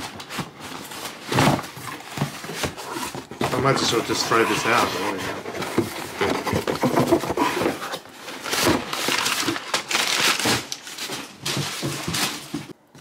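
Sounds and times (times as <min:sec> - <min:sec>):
cardboard box and paper rustling: 0:00.0 - 0:13.0.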